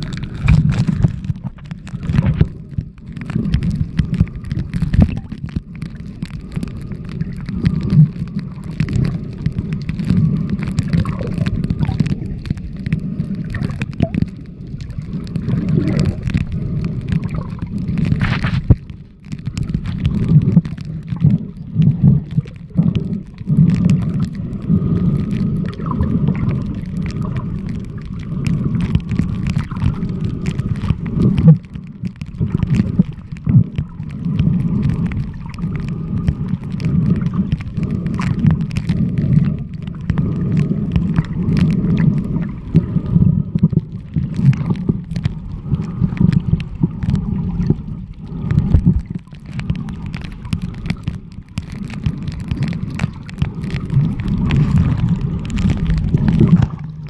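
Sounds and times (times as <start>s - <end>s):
underwater rumble and gurgling: 0.0s - 57.0s.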